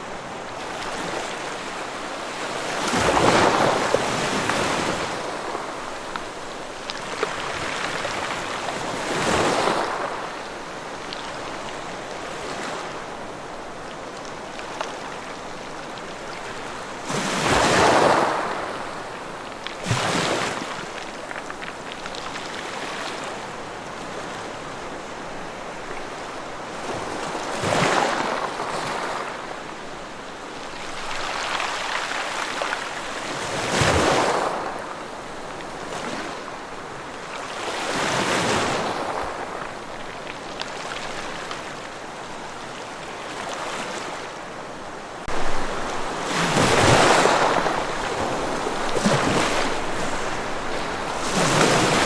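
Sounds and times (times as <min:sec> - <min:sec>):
ocean waves breaking on shore: 0:00.0 - 0:52.0.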